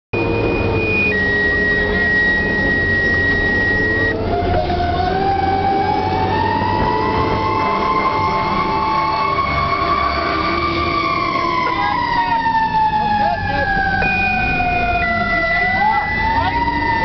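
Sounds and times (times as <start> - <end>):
siren winding up: 0.2 - 17.0
fire engine idling: 1.2 - 17.0.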